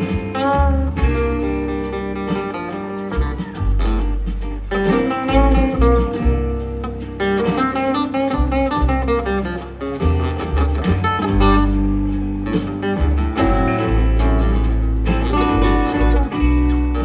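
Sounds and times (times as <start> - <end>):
slow blues band playing: 0.0 - 17.0.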